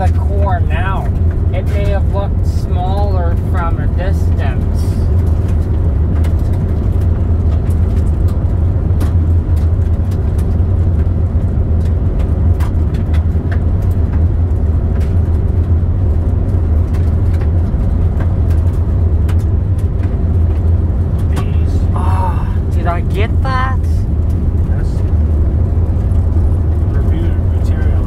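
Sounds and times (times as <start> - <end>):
car driving from inside cabin: 0.0 - 28.0.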